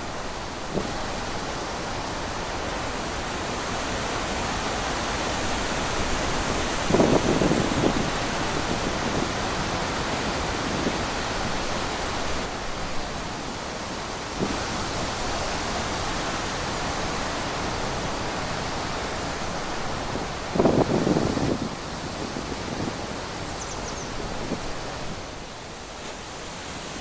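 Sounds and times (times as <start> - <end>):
wind blowing: 0.0 - 27.0.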